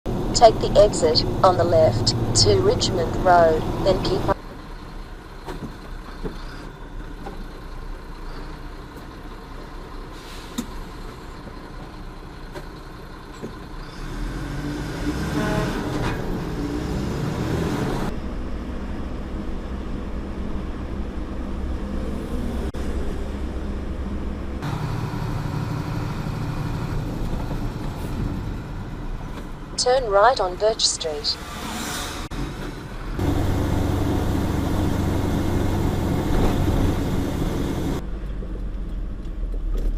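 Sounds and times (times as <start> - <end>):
road noise: 0.0 - 39.9
truck engine: 0.0 - 39.9.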